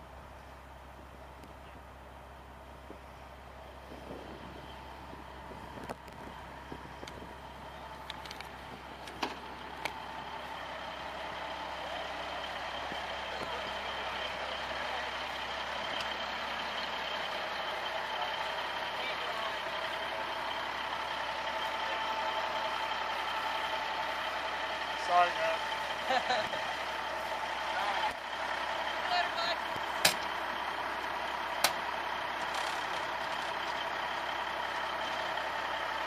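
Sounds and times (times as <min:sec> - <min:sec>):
fire engine pump running: 0:00.0 - 0:36.0.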